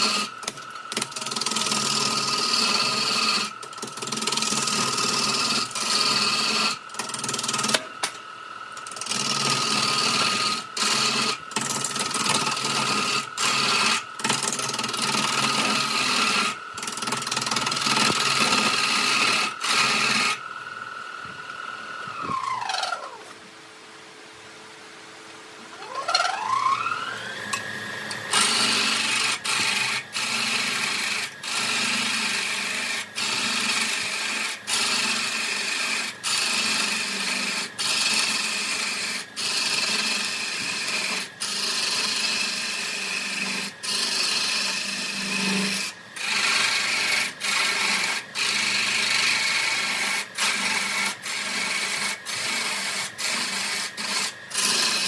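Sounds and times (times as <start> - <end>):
tool scraping spinning wood: 0.0 - 23.4, 25.6 - 55.0
wood lathe motor whining: 0.0 - 23.4, 25.7 - 55.0.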